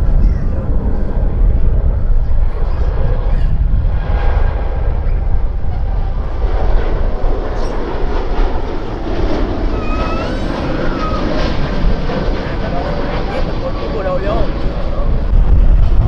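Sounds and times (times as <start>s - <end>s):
high jet engine whine: 0.0s - 16.0s
jet engine rush: 0.0s - 16.0s.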